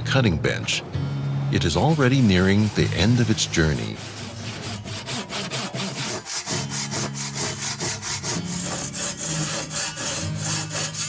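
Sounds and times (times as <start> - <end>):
hand saw cutting wood: 1.8 - 11.0.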